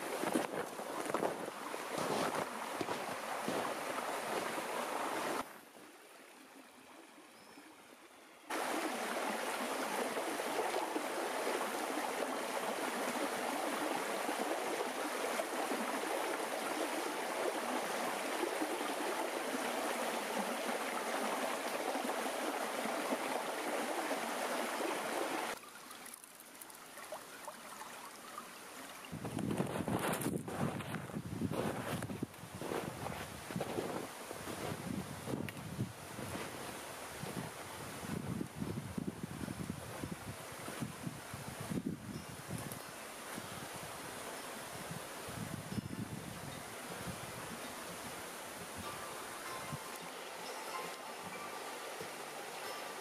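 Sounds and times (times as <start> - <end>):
stream babbling over rocks: 0.0 - 6.6, 8.5 - 30.0, 32.6 - 53.0.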